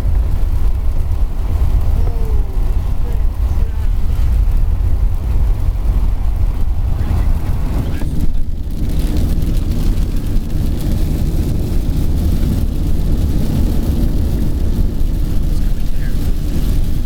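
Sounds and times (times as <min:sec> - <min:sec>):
rain hitting car: 0:00.0 - 0:17.0
road and wind rumble in car: 0:00.0 - 0:17.0.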